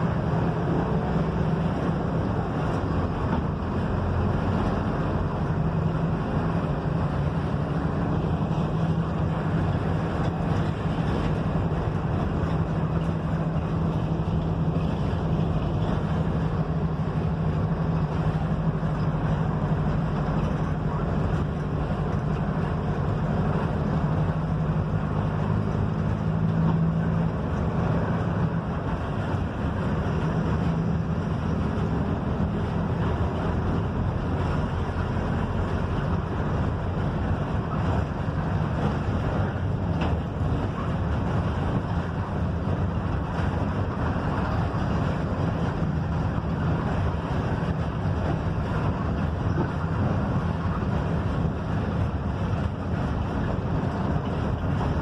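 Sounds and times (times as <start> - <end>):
bus engine drone: 0.0 - 55.0
road and wind noise: 0.0 - 55.0.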